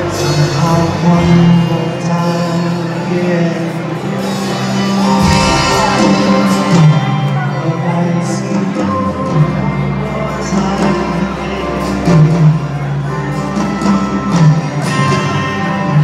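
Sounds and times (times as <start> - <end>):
man singing: 0.0 - 12.8
acoustic guitar: 0.0 - 16.0
soft-rock band through pa: 0.0 - 16.0.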